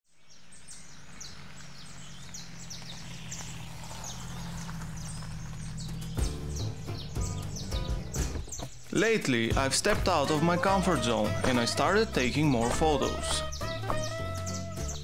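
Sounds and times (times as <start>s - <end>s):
birds chirping: 0.0s - 15.0s
car engine humming: 0.4s - 15.0s
tyres rolling on gravel: 0.4s - 15.0s.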